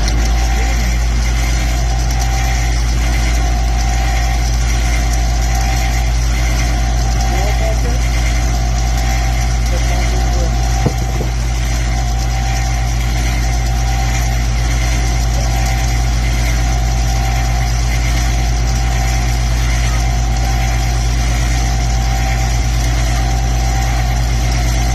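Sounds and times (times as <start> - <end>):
dishwasher pump humming: 0.0 - 24.9.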